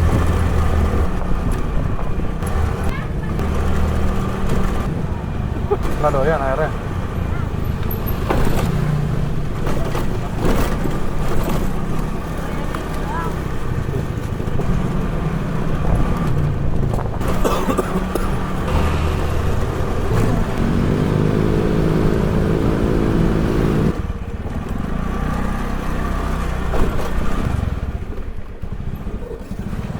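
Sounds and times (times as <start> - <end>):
road and wind noise: 0.0 - 29.9
vehicle engine running: 0.0 - 29.9.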